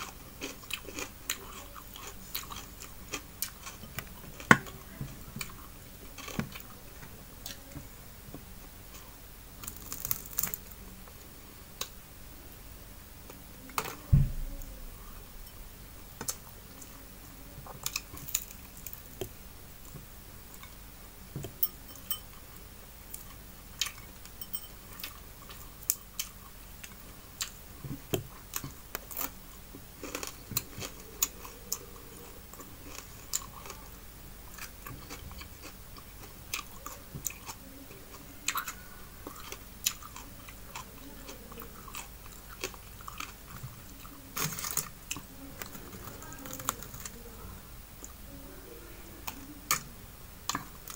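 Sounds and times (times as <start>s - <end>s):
chewing food: 0.0s - 12.0s, 16.2s - 20.8s, 23.0s - 47.4s, 49.2s - 50.9s
crackles: 0.0s - 50.9s.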